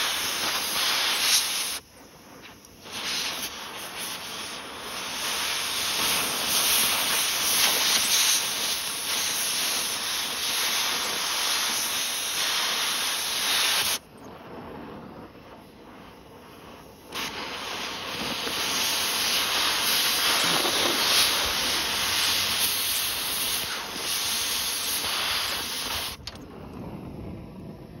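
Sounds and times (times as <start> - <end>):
cutting torch hissing: 0.0 - 27.4.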